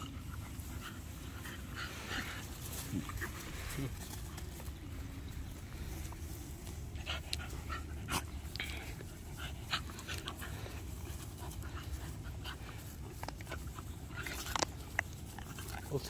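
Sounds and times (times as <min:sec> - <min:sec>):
dogs panting: 0:00.0 - 0:16.0.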